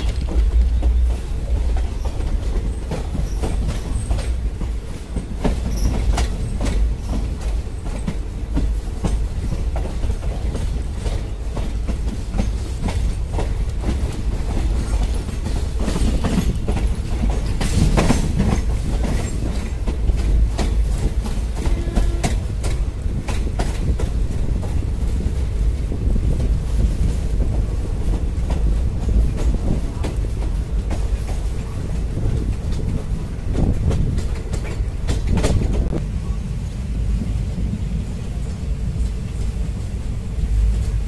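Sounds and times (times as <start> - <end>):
wheels clickety-clack over rail joints: 0.0 - 36.4, 37.0 - 41.0
train wheels rumbling: 0.0 - 41.0.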